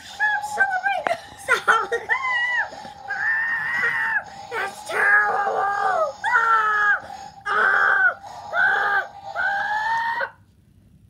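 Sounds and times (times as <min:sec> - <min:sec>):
high-pitched voice crying: 0:00.2 - 0:10.3.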